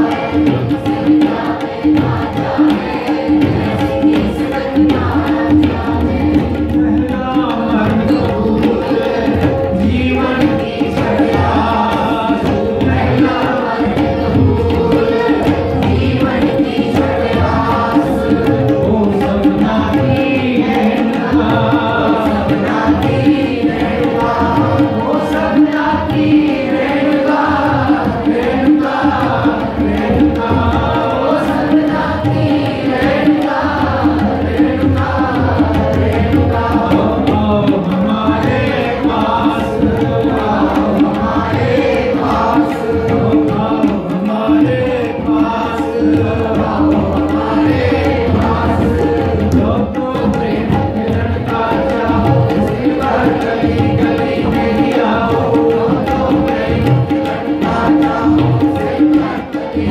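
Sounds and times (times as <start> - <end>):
tabla playing fast rhythm: 0.0 - 59.9
voices singing: 0.0 - 59.9.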